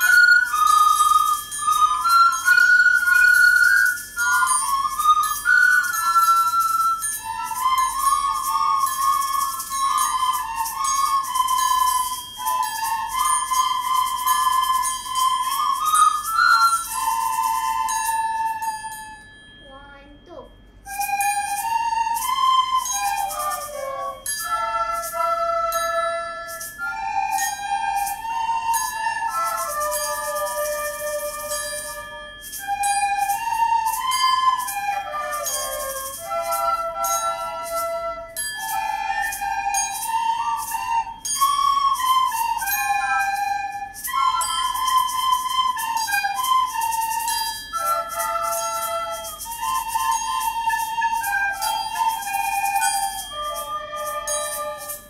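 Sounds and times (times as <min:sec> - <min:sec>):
recorder ensemble playing: 0:00.0 - 0:19.3, 0:20.6 - 0:55.0.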